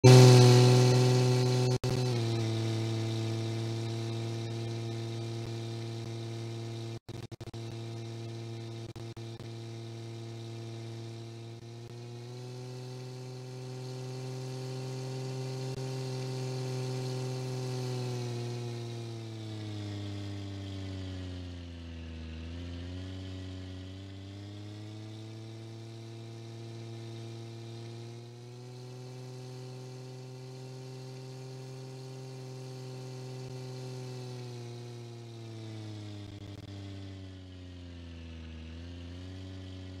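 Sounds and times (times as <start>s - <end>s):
buzzy tractor engine drone: 0.0s - 40.0s.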